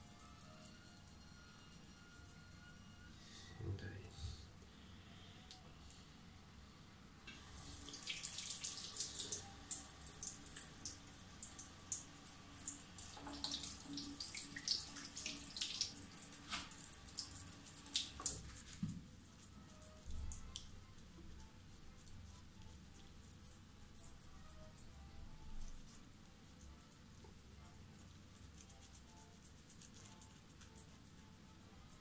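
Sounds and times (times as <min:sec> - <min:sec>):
shaving brush lathering soap: 0:00.0 - 0:03.0, 0:07.4 - 0:32.0.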